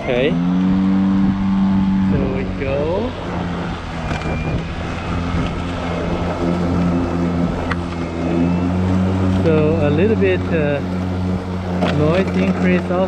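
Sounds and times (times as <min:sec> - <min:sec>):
electric lawn mower cutting grass: 0:00.0 - 0:13.0.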